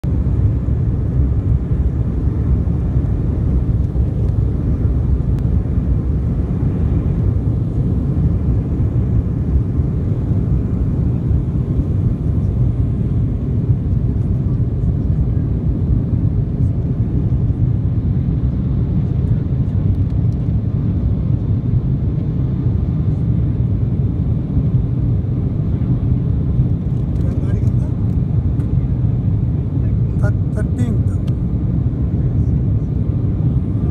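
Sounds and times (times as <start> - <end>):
jet engines low rumble: 0.0 - 33.9.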